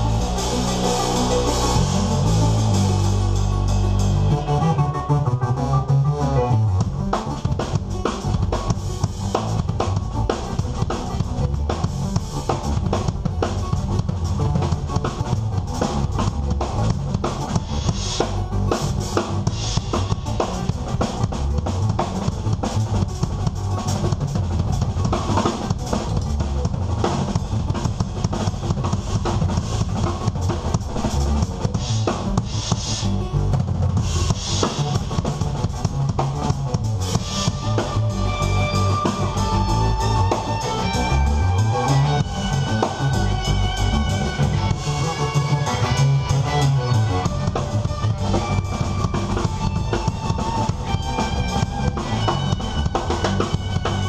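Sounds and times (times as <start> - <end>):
bass line: 0.0 - 54.0
drum kit: 0.0 - 54.0
keyboards: 0.0 - 54.0.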